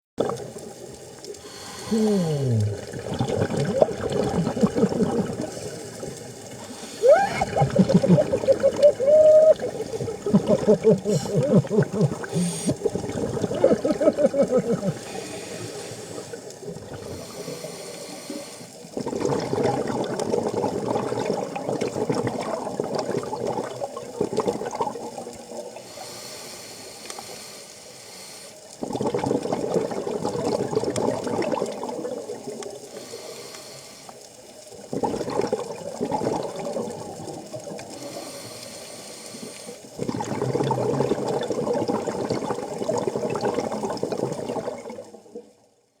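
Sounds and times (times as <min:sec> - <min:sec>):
water bubbling and rushing: 0:00.2 - 0:28.0, 0:28.7 - 0:33.6, 0:34.6 - 0:45.4.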